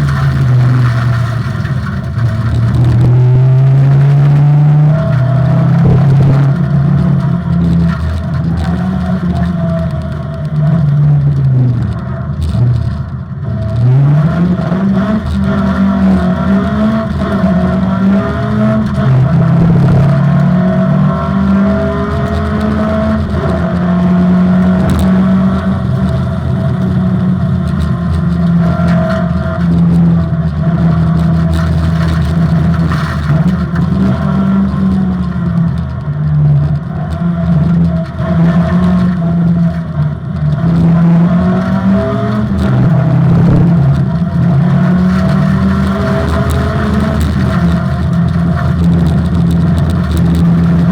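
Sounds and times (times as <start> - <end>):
rally car engine revving: 0.0 - 50.9.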